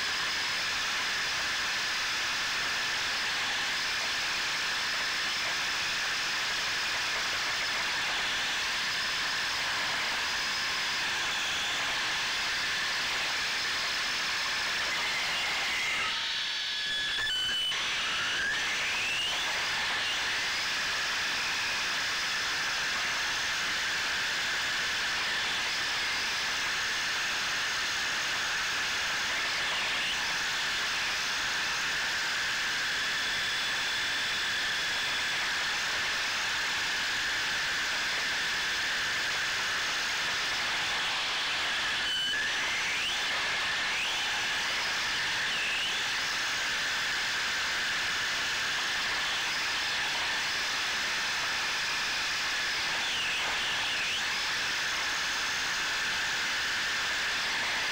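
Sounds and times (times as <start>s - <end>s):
rc car motor and gears whining: 0.0s - 57.9s.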